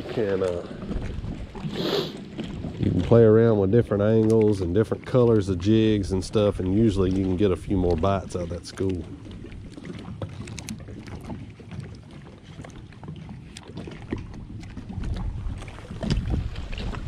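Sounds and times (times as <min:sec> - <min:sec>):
wind rumbling on microphone: 0:00.0 - 0:04.2, 0:05.2 - 0:11.9, 0:12.7 - 0:17.0
water lapping against boat hull: 0:00.0 - 0:17.0.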